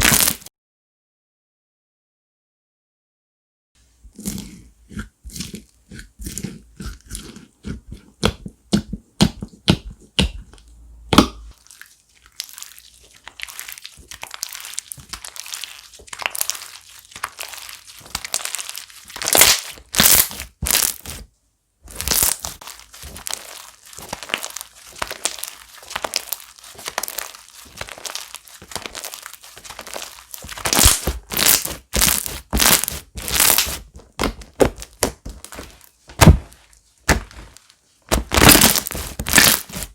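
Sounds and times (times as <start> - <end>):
slime squished by hand: 0.0 - 0.5, 4.2 - 21.3, 21.9 - 39.9.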